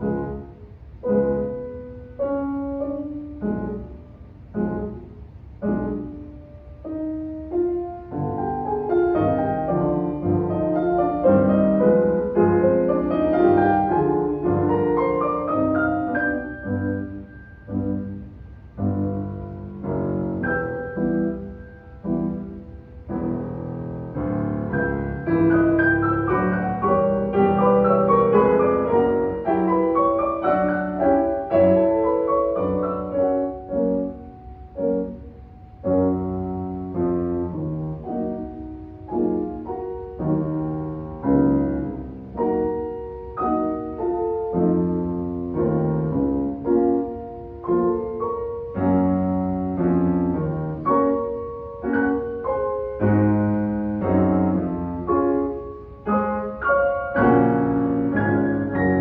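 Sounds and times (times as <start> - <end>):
two pianos playing together: 0.0 - 59.0.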